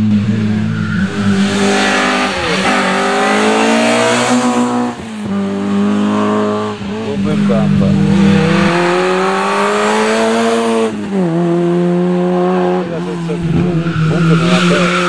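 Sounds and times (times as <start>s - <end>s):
rally car engine revving past: 0.0s - 15.0s.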